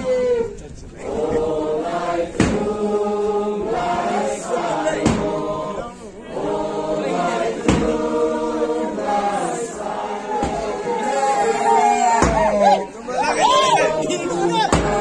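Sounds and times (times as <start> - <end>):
group chanting: 1.0 - 15.0.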